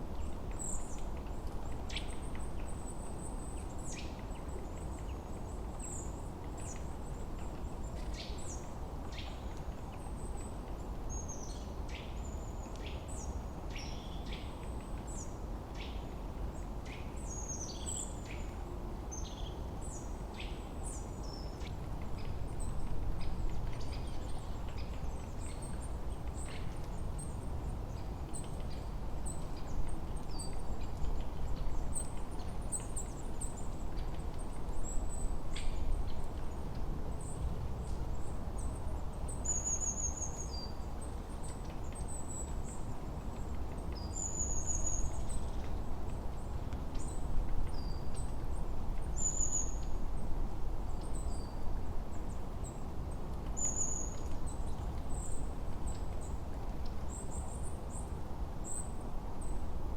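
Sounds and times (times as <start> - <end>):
low rush of wind: 0.0 - 59.9
songbirds chirping: 0.0 - 59.9.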